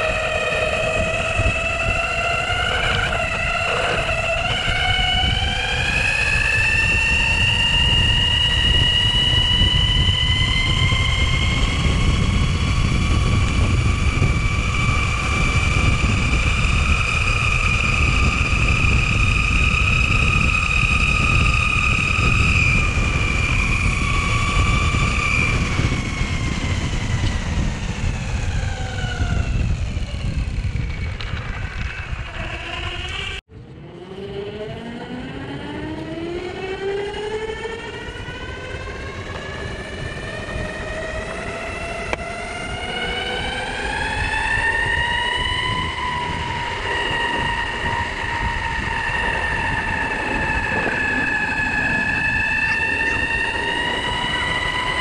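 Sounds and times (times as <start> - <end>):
constant low rumble: 0.0 - 55.0
electric skateboard drive whining: 0.0 - 55.0.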